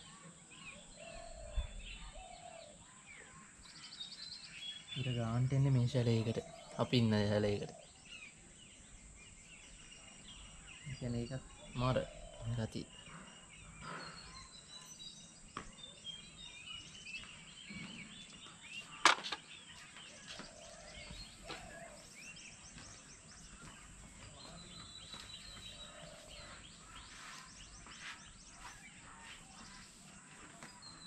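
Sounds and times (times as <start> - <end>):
birds chirping and warbling: 0.0 - 31.0.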